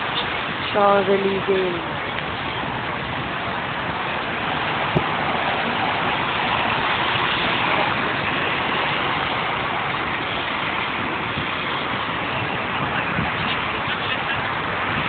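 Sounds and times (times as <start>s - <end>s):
passing cars: 0.0s - 15.0s.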